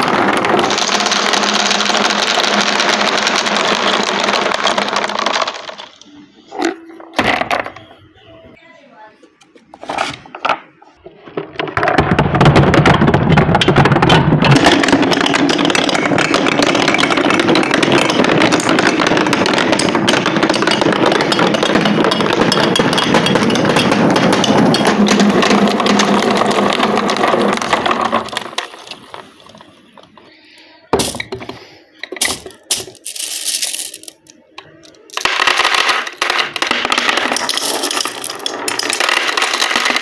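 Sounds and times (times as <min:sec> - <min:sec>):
marbles rattling down a track: 0:00.0 - 0:06.0, 0:11.4 - 0:30.4, 0:31.0 - 0:31.5, 0:32.1 - 0:40.0.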